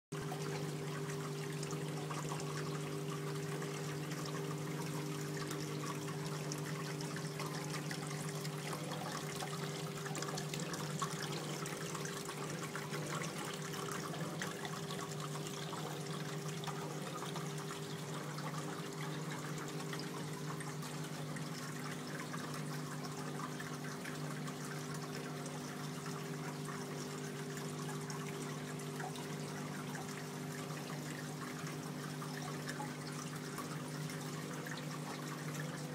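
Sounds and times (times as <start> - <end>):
steady low hum: 0.2 - 35.9.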